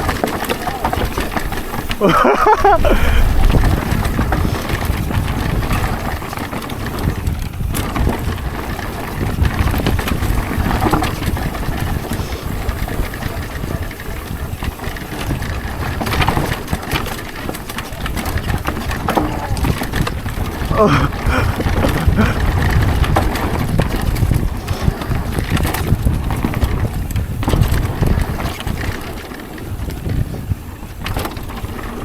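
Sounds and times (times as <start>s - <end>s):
wind rushing over microphone: 0.0s - 17.1s, 17.9s - 32.0s
bike rattling and knocking: 0.0s - 32.0s
tyres rumbling on dirt: 0.0s - 32.0s.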